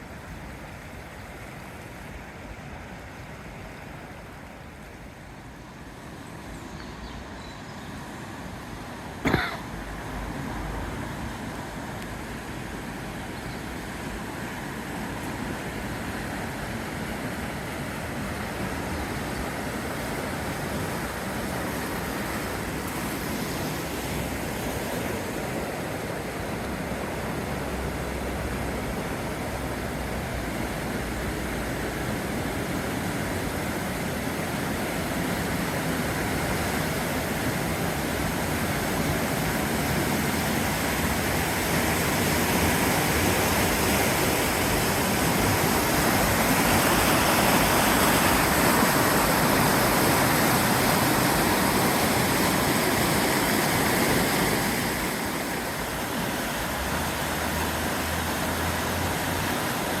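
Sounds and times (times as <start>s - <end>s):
river rushing: 0.0s - 60.0s.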